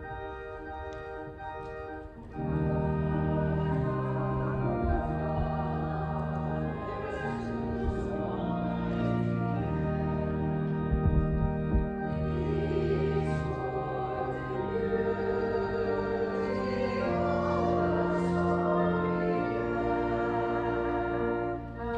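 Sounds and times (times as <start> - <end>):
organ playing sustained chords: 0.0 - 21.9.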